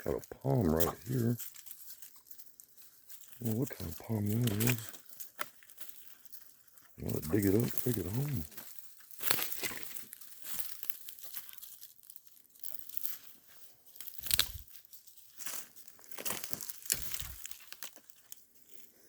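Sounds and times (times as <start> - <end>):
twigs snapping: 0.0 - 6.3, 7.0 - 18.4
footsteps crunching dry leaves: 0.0 - 18.9.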